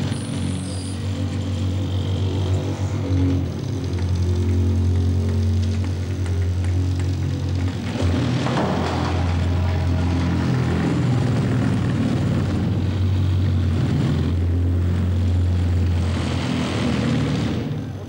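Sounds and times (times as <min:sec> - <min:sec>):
electric motor droning: 0:00.0 - 0:18.0.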